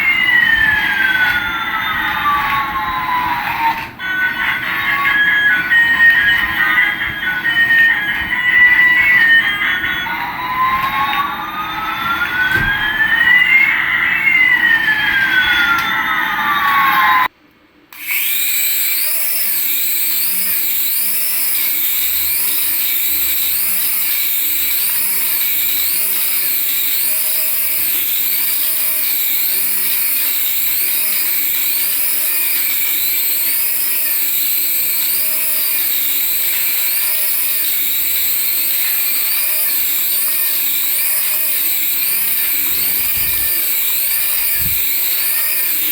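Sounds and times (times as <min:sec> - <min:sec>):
toy siren tones sliding: 0:00.0 - 0:17.3, 0:17.9 - 0:45.9
warbling electronic tone: 0:00.0 - 0:17.3, 0:19.1 - 0:45.9.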